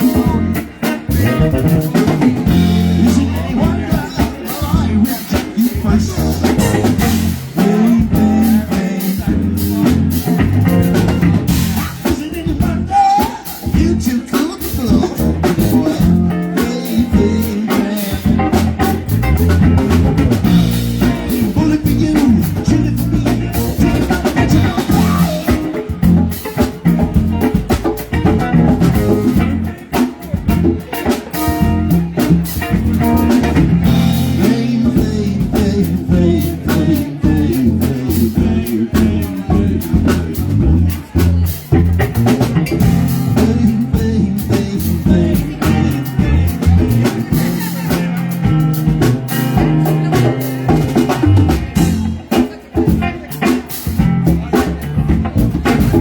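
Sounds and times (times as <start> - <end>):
drum rimshots: 0.0 - 56.0
guitar: 0.0 - 56.0
live band playing: 0.0 - 56.0.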